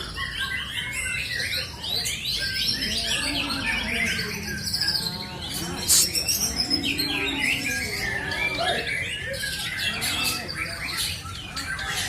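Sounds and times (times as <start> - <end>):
bird singing chirps and whistles: 0.0 - 12.0.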